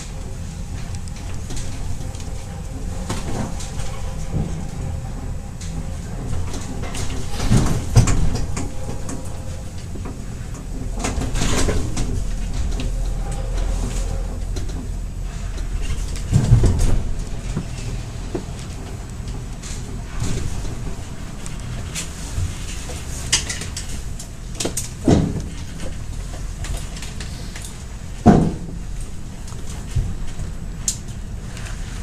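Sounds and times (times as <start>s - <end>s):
funicular clatters: 0.0s - 32.0s
funicular low rumble on rails: 0.0s - 32.0s.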